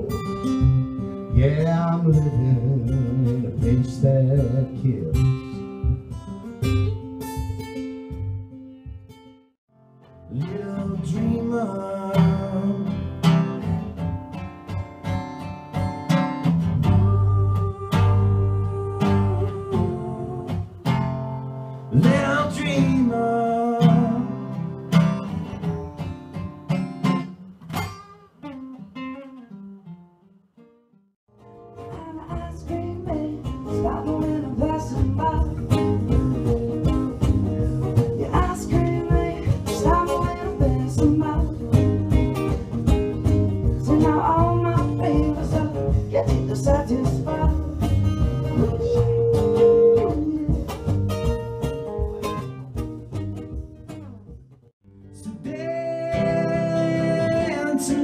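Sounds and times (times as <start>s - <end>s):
acoustic guitar ringing: 0.0s - 58.0s
acoustic guitar strumming: 0.0s - 58.0s.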